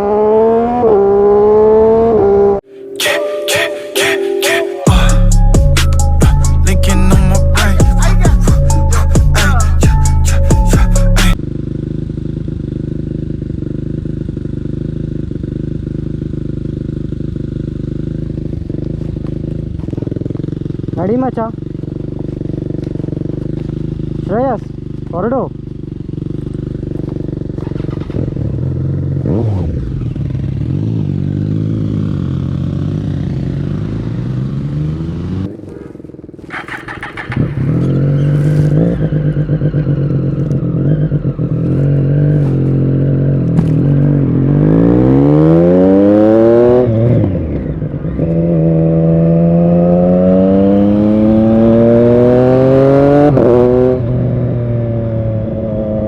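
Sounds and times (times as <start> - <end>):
motorcycle engine revving: 0.0 - 2.7, 4.9 - 56.0.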